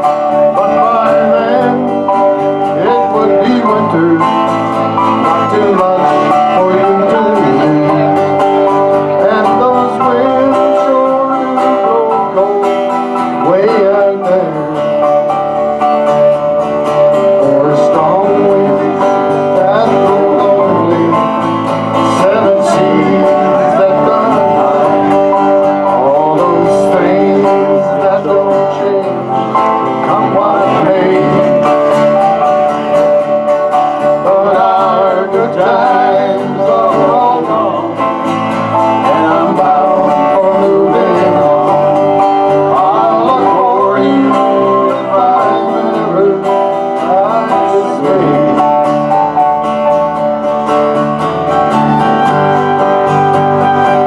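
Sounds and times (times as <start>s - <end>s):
acoustic folk group playing: 0.0s - 54.0s.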